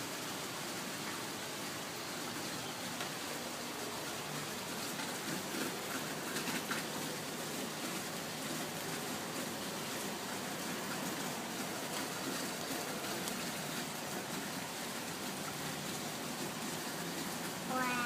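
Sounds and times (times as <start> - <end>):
rain pattering on surfaces: 0.0 - 18.0.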